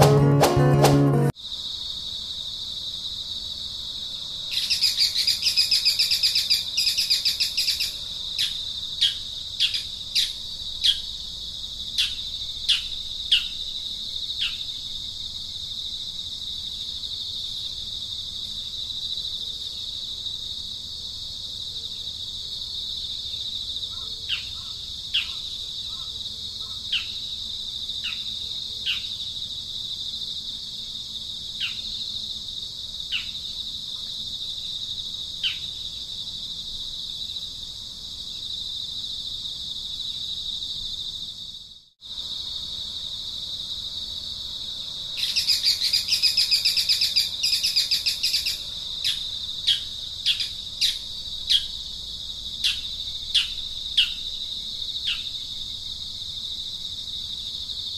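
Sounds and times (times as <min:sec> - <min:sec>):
insect chorus hum: 0:01.3 - 0:57.9.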